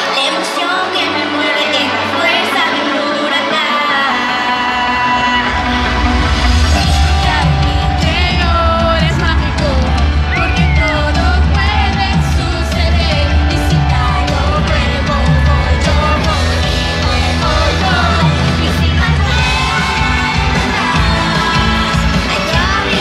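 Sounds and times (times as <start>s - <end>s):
audience yelling: 0.0s - 23.0s
loud live pop music: 0.0s - 23.0s
person singing: 0.0s - 23.0s
heavy bass line: 4.5s - 23.0s.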